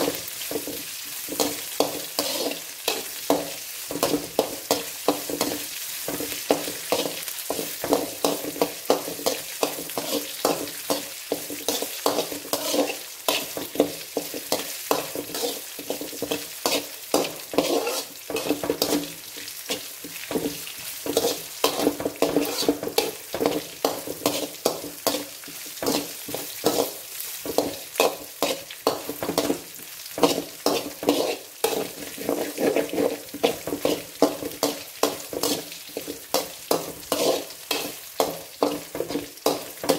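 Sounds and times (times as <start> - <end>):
food sizzling in hot oil: 0.0 - 39.9
spatula scraping metal pan: 0.0 - 39.9.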